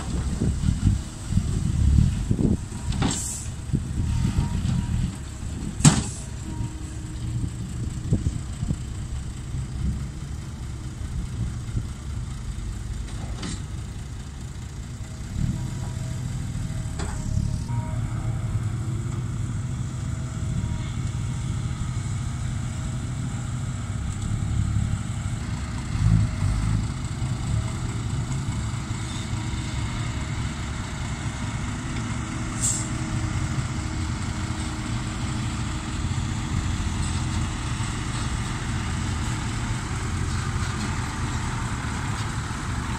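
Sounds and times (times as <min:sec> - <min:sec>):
dump truck diesel engine running: 0:00.0 - 0:42.9.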